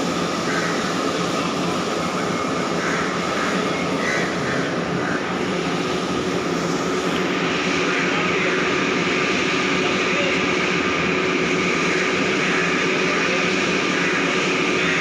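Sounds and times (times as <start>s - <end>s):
milling machine running: 0.0s - 15.0s.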